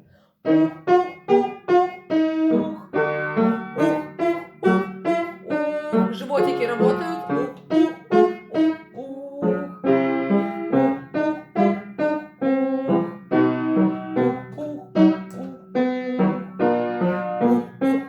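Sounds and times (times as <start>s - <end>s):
piano notes and chords: 0.0s - 18.0s.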